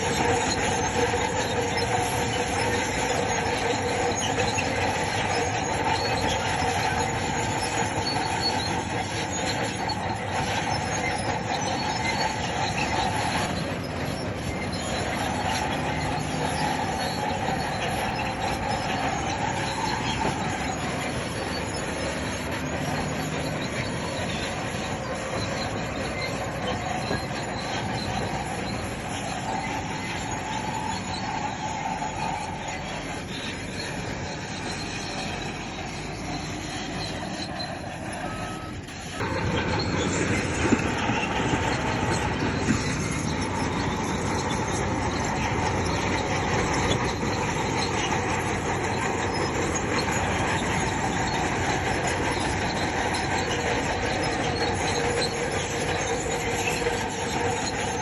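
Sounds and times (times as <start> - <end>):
bulldozer engine running: 0.0 - 58.0
bulldozer tracks squealing: 0.0 - 58.0.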